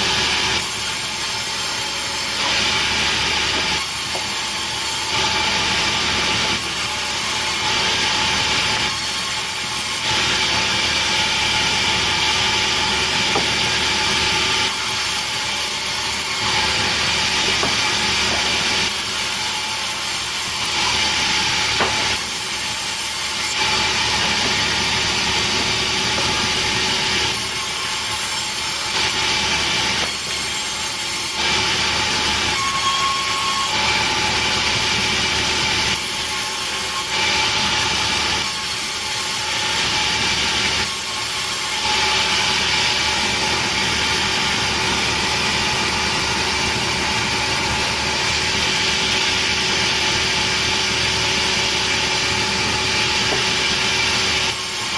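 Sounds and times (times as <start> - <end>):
saw cutting wood: 0.0 - 54.9.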